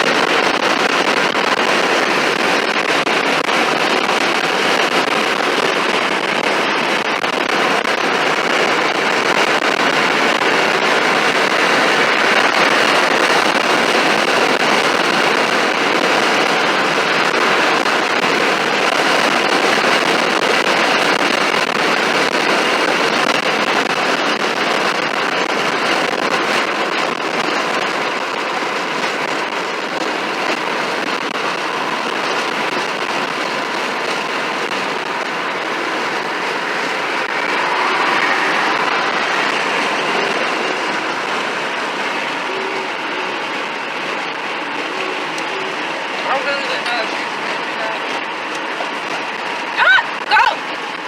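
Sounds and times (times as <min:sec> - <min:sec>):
moving vehicle rushing noise: 0:00.0 - 0:51.0.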